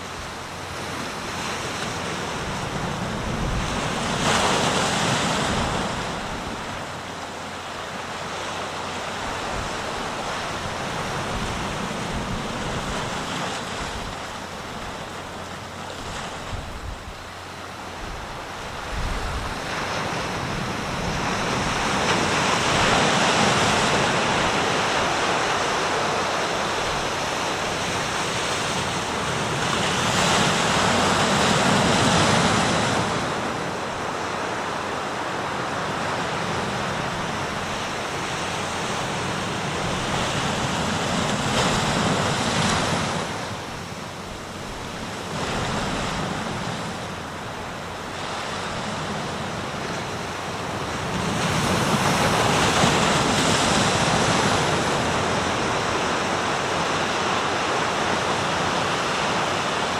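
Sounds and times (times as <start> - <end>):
sea surf washing ashore: 0.0 - 59.9
waves breaking: 0.0 - 59.9.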